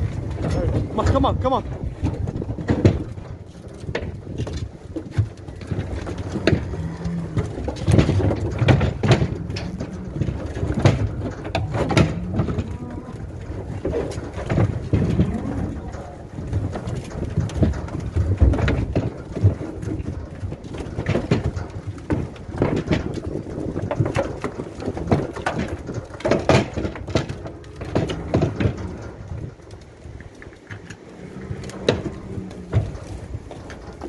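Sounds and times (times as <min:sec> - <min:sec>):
cattle hooves on trailer floor: 0:00.0 - 0:34.0.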